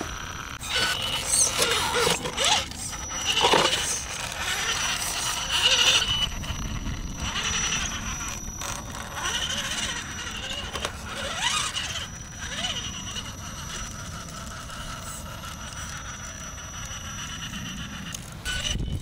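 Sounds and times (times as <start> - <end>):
tyres scraping on stone: 0.0 - 6.3, 7.4 - 16.6
electric motor whining: 0.0 - 19.0.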